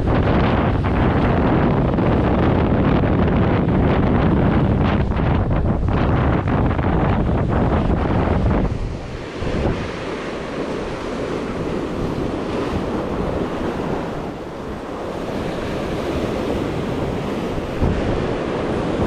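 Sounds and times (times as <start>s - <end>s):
sea waves washing on shore: 0.0s - 19.0s
wind buffeting microphone: 0.0s - 19.0s.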